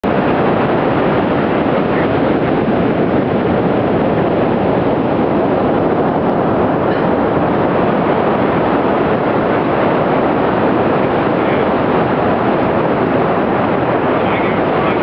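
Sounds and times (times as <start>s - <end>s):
beach surf rushing: 0.0s - 15.0s
wind: 0.0s - 15.0s.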